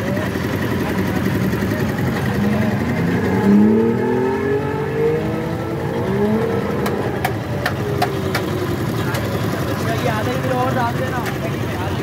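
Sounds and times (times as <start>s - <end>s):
vehicle engine accelerating: 0.0s - 11.2s
street traffic noise: 0.0s - 12.0s.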